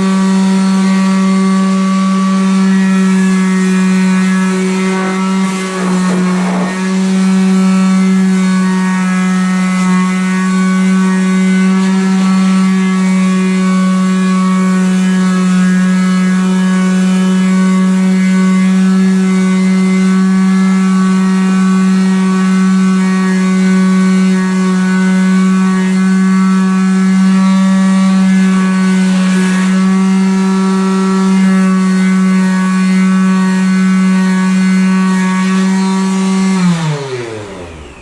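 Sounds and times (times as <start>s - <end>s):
power sander whining: 0.0s - 38.0s.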